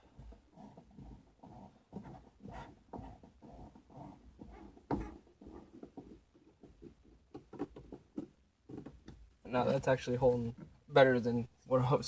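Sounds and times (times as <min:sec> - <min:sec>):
speaker handling knocks and scrapes: 0:00.0 - 0:10.9.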